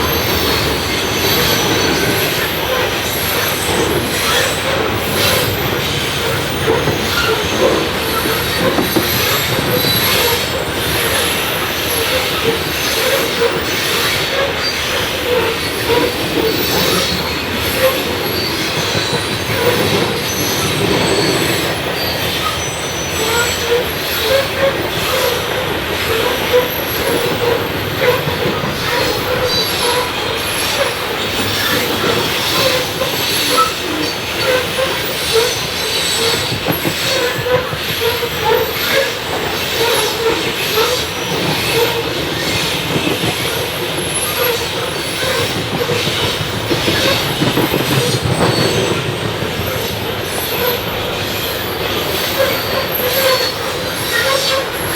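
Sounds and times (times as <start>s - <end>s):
railroad cars rolling past: 0.0s - 54.9s
wheels squealing on rails: 0.0s - 54.9s.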